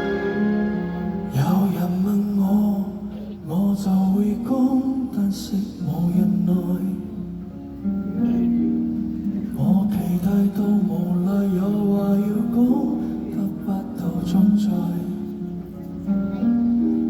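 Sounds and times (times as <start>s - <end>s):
slow live concert song: 0.0s - 17.0s.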